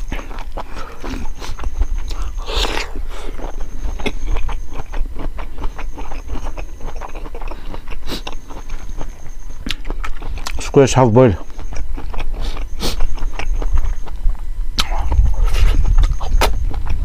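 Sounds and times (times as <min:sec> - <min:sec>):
mouth clicks: 0:00.0 - 0:10.7, 0:11.4 - 0:17.0
wet crunchy chewing: 0:00.0 - 0:17.0.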